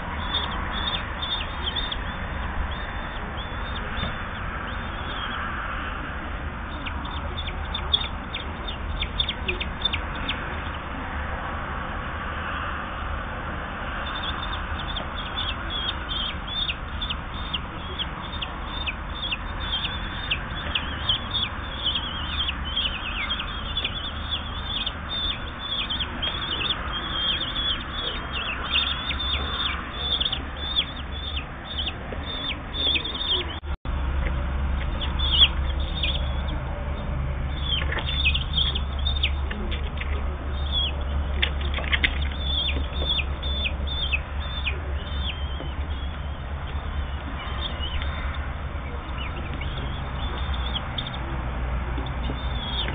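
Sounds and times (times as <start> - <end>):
bird chicks begging calls: 0.0 - 13.0, 13.6 - 52.9.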